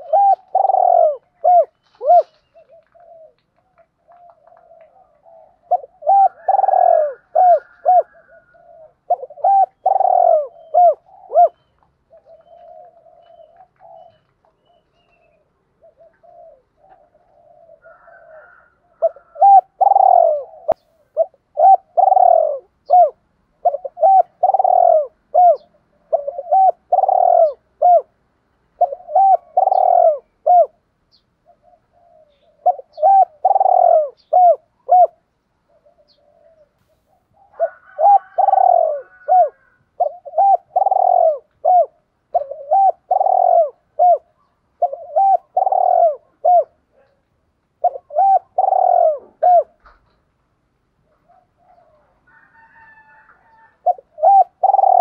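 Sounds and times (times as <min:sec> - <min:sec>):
dove cooing: 0:00.0 - 0:47.2, 0:47.8 - 0:50.2, 0:51.0 - 0:55.0.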